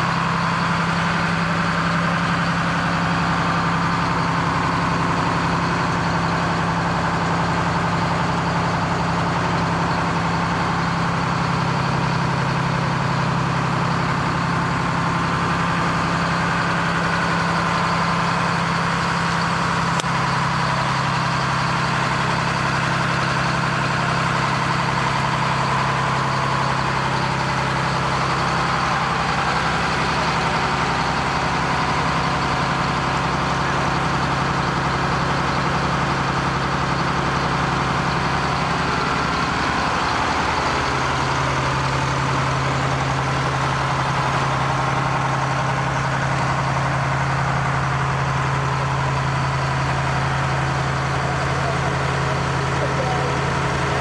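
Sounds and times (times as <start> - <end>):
fire truck engine running: 0.0 - 54.0.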